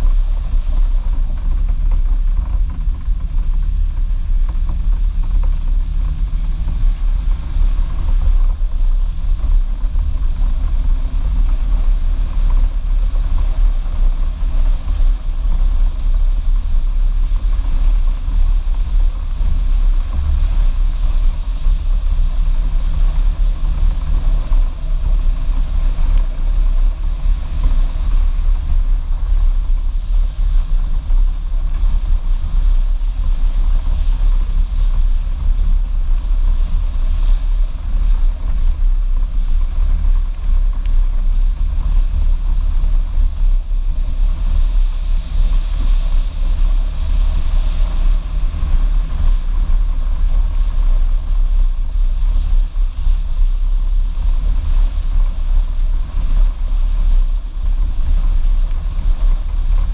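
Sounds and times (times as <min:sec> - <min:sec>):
deep uneven rumble over rocks: 0:00.0 - 0:59.9
off-road vehicle engine drone: 0:00.0 - 0:59.9.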